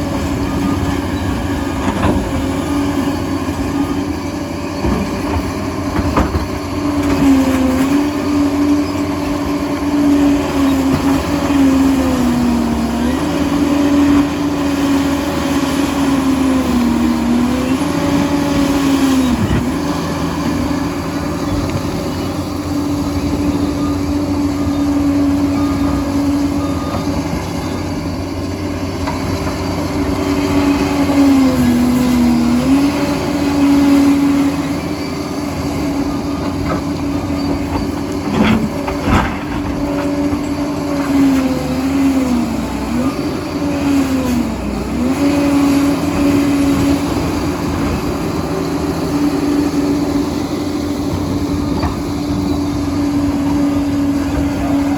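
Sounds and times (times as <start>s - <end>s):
crawler dozer engine drone: 0.0s - 54.9s.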